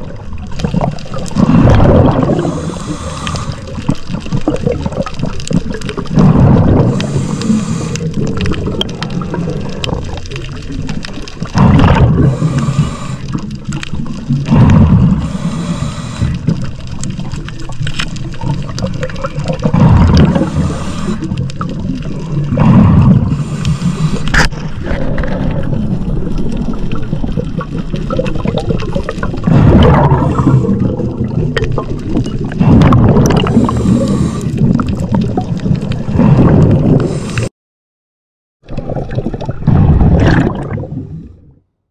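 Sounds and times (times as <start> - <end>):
diver exhaling bubbles underwater: 0.0 - 37.5, 38.6 - 41.7
water rushing: 0.0 - 37.5, 38.7 - 41.3.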